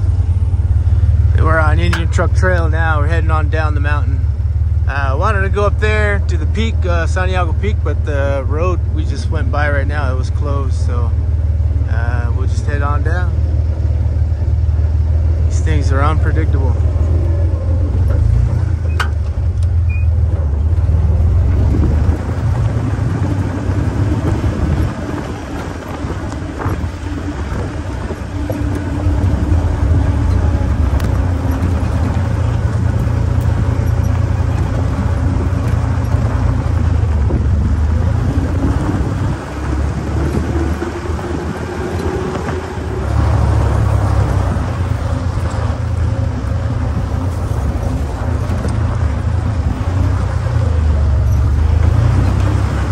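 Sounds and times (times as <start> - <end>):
engine running while driving: 0.0 - 52.9.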